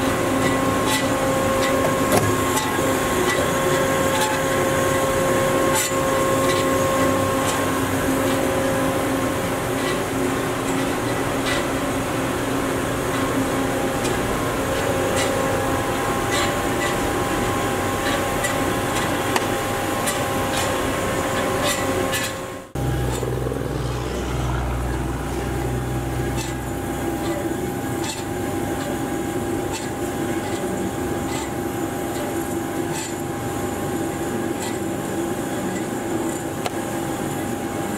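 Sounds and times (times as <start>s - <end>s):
band saw cutting metal: 0.0s - 35.0s.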